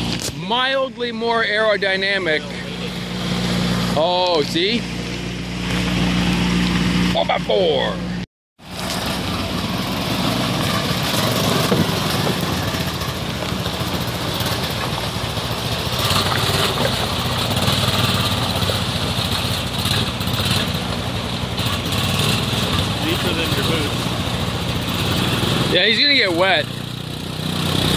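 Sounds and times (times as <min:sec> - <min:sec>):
quad engine running at low speed: 0:00.0 - 0:27.9.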